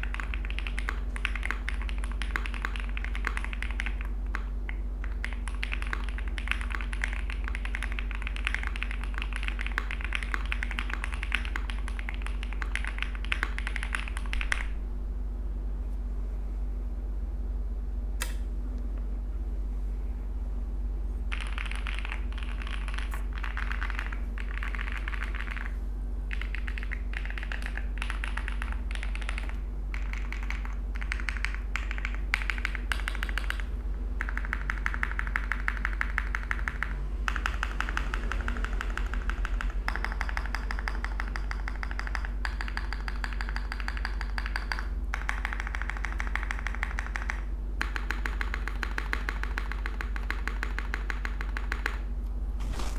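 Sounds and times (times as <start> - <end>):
fast typing on mechanical keyboard: 0.0 - 14.7, 21.3 - 25.7, 26.3 - 52.0.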